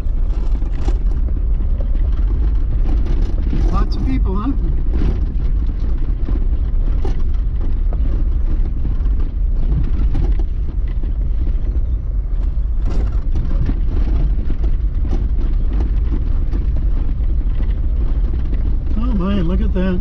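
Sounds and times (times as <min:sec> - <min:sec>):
knocks and rattles: 0:00.0 - 0:20.0
road and engine rumble: 0:00.0 - 0:20.0.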